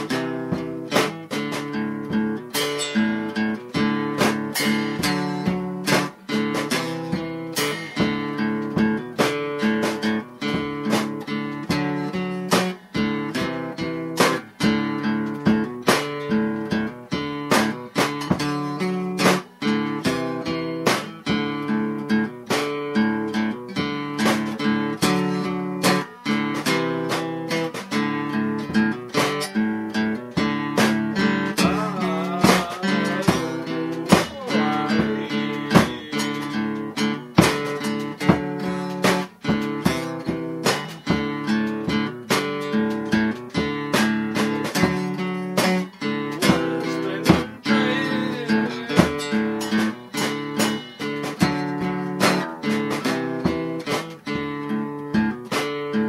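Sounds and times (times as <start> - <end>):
guitar strumming: 0.0 - 56.0.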